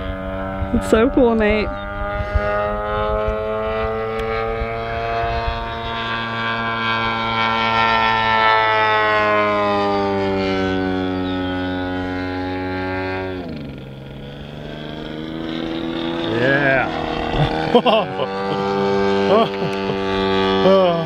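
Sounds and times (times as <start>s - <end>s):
model plane engine droning: 0.0s - 21.0s.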